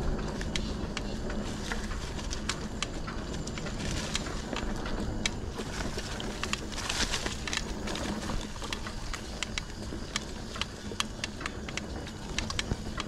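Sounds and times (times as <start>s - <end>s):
bike clicks and rattles: 0.0s - 13.0s
tyre and wind rumble: 0.0s - 13.0s.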